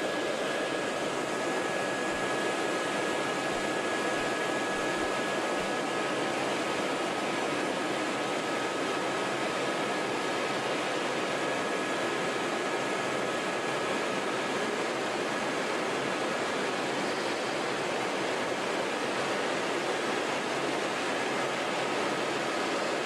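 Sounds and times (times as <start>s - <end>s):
helicopter flying: 0.0s - 23.0s.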